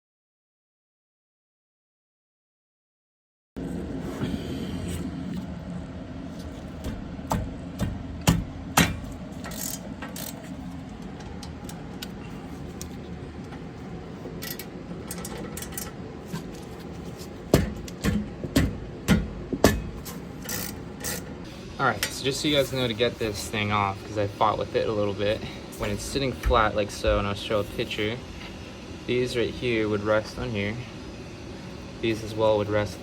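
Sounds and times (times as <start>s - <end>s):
steady low hum: 3.6s - 33.0s.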